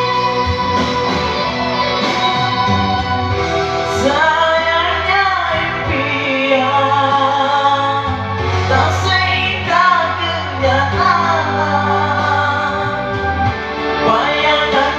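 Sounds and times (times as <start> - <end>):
backing music: 0.0 - 14.9
woman singing: 0.0 - 14.9.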